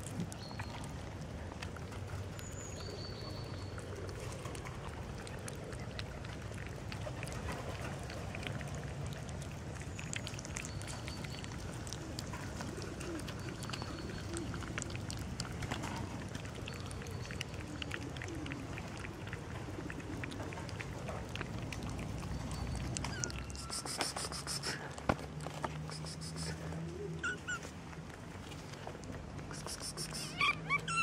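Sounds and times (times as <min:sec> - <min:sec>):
cats chewing food: 0:00.0 - 0:31.0.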